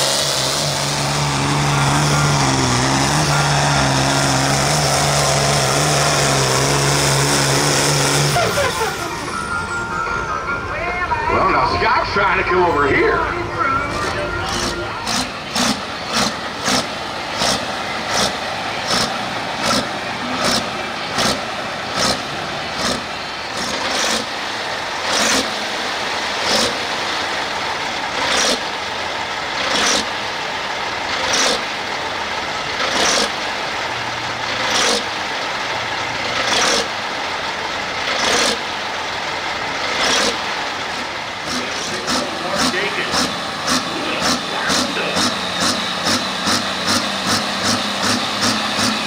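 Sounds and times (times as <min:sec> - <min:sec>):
tractor diesel engine bursts: 0:00.0 - 0:49.0.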